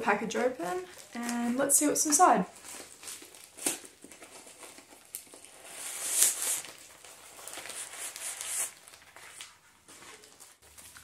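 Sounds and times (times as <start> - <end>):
packaging rustling: 0.6 - 11.0.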